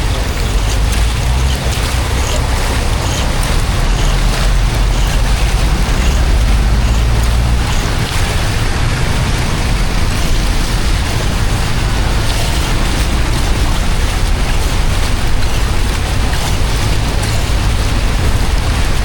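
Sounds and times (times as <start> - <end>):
water rushing with low rumble: 0.0 - 19.0.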